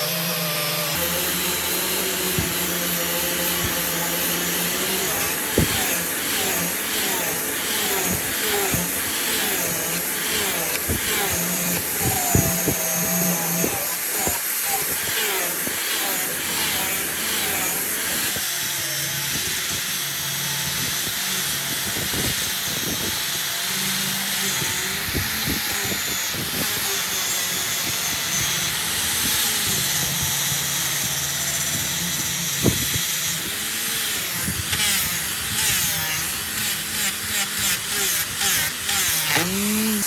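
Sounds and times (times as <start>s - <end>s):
power tool cutting wood: 0.0s - 40.0s.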